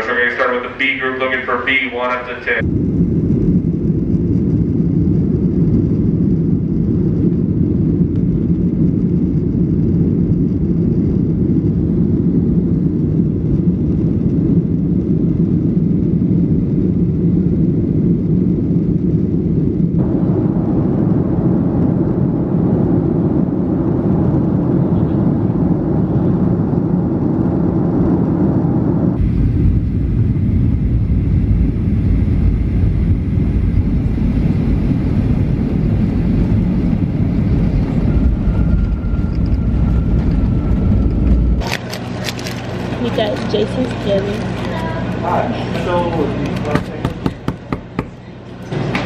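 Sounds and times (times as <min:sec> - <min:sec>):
airplane cabin engine noise: 0:00.0 - 0:49.0.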